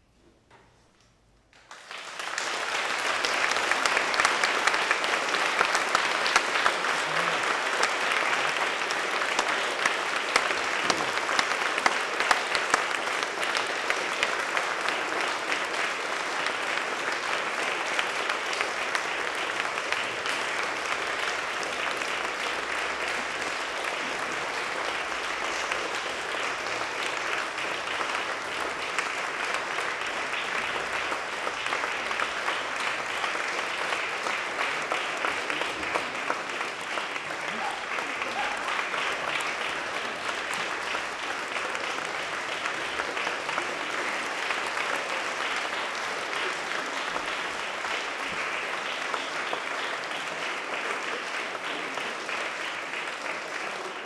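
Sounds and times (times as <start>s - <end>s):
audience applauding: 1.6s - 54.0s.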